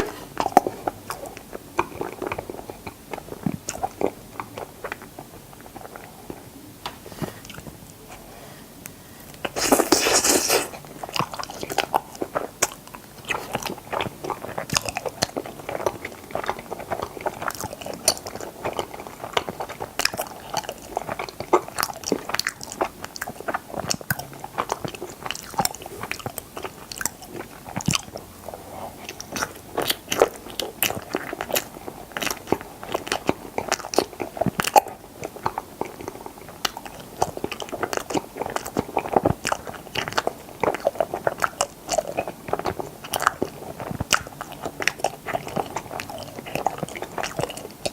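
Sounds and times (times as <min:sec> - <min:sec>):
crunchy chewing and biting: 0:09.4 - 0:47.9.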